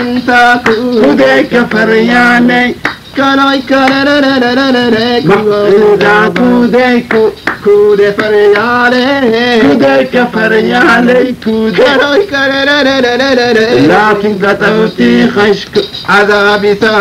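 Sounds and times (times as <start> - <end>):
person singing ornamented melody: 0.0 - 17.0.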